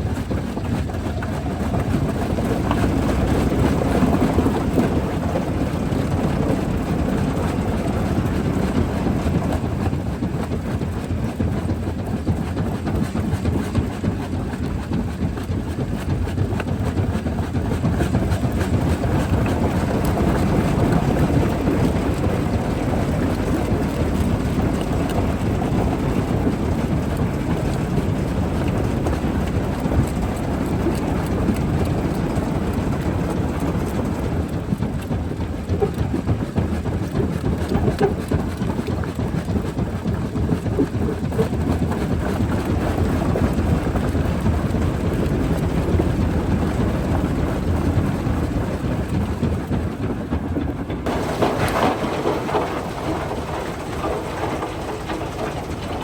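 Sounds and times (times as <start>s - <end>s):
rock crusher rumbling: 0.0s - 12.8s, 13.5s - 56.0s.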